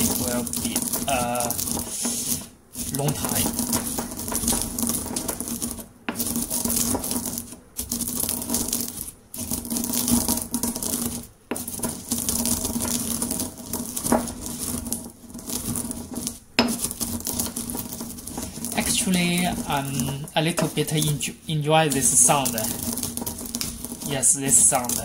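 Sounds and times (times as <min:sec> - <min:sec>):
stone pestle crushing coffee beans: 0:00.0 - 0:25.0.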